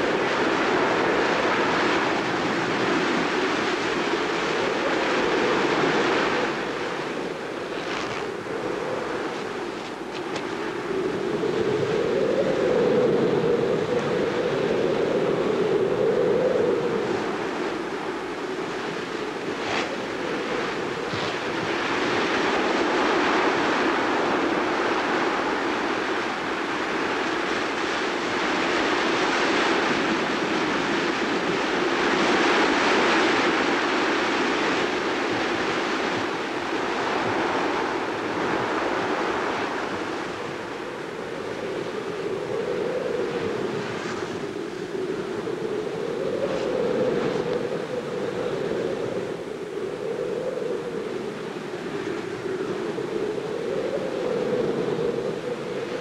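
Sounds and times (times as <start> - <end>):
gusting wind: 0.0 - 56.0.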